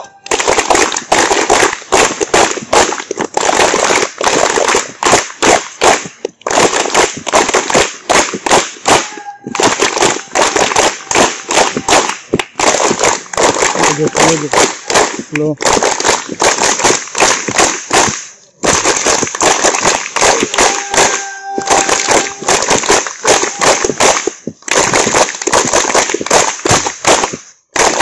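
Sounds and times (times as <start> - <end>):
crowd hand clapping: 0.0 - 28.0.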